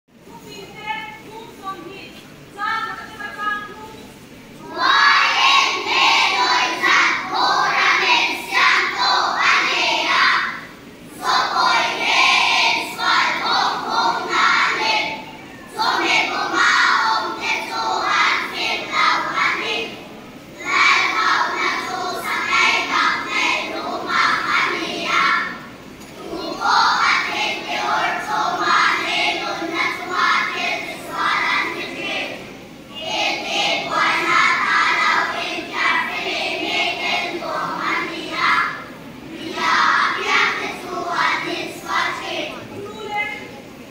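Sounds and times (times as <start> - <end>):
children's voices in unison: 4.6 - 43.5.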